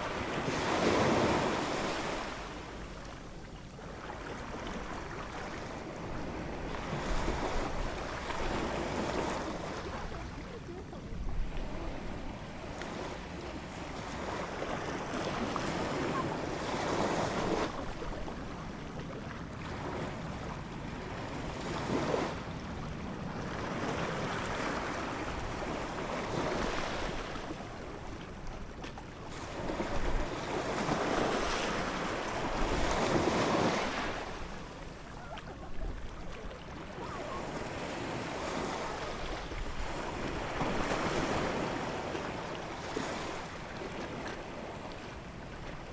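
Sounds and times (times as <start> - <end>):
ocean waves breaking on shore: 0.0 - 3.2, 3.9 - 45.9.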